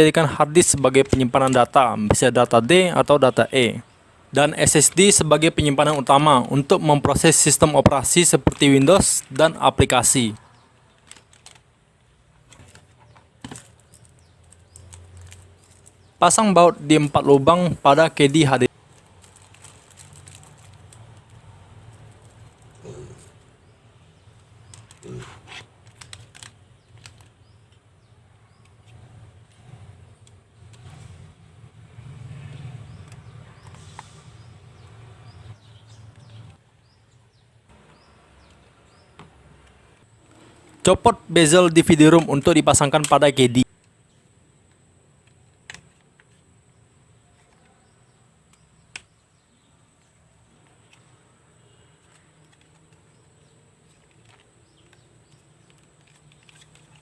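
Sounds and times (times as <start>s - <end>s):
handling small plastic parts: 0.4s - 23.4s, 24.2s - 31.2s, 39.5s - 57.0s.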